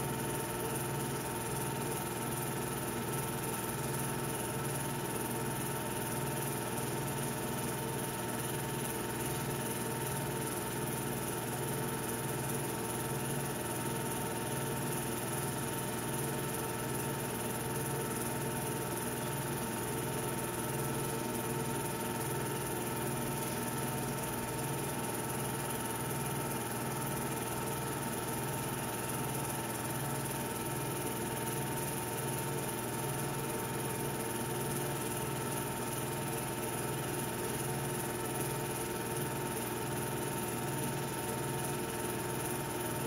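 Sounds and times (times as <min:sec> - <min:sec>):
film projector whirring: 0:00.0 - 0:43.0.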